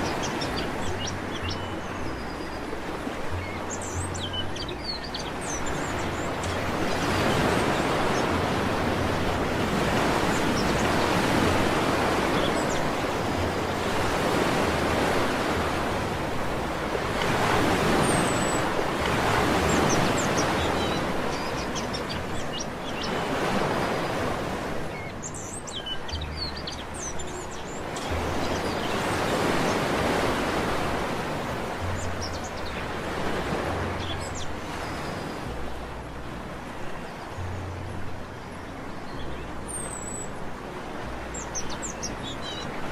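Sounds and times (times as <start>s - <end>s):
small birds chirping: 0.0s - 15.9s, 16.8s - 35.5s, 36.7s - 42.9s
sea waves breaking on beach: 0.0s - 42.9s.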